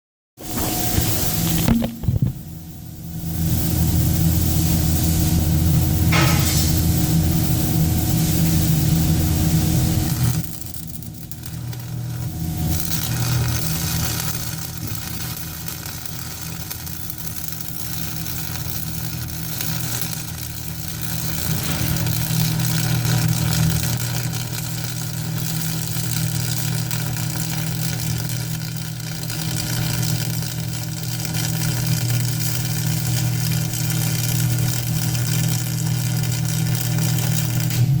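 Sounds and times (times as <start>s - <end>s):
welding arc crackling sizzle: 0.4s - 38.0s
welding machine hum: 0.4s - 38.0s.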